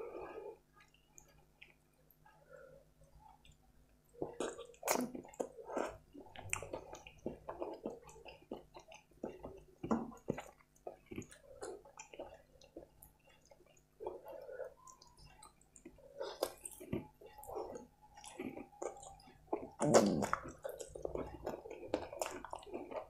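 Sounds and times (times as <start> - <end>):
wet chewing and lip-smacking: 0.6 - 2.4, 3.0 - 23.0.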